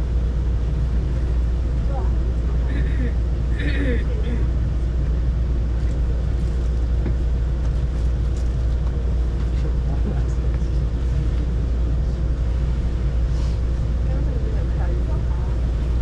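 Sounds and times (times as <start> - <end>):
constant hum: 0.0 - 16.0
train rumbling: 0.0 - 16.0.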